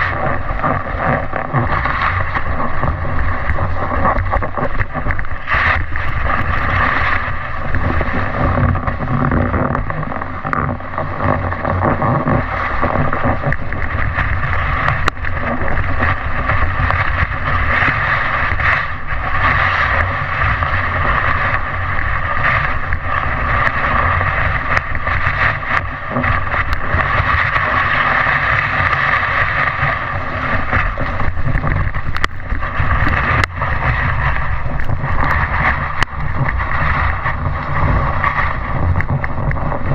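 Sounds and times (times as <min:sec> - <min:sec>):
wind rushing against microphone: 0:00.0 - 0:39.9.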